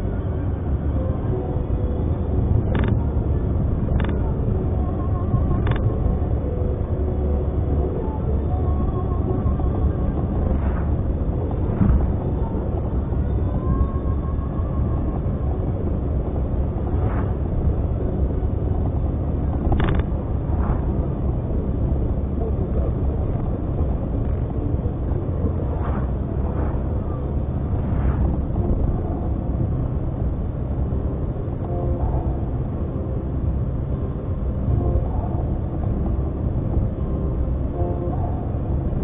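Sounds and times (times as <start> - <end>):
car engine rumble: 0.0 - 39.0.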